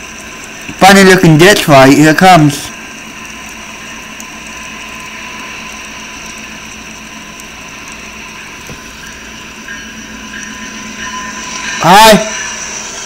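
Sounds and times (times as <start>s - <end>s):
freight train rumble: 0.0s - 13.0s
rail noise: 0.0s - 13.0s.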